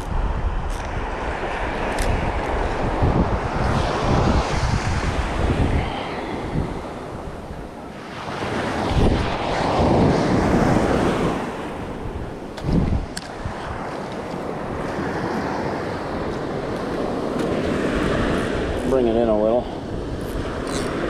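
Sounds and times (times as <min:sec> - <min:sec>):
waves breaking on beach: 0:00.0 - 0:21.0
wind buffeting microphone: 0:00.0 - 0:21.0.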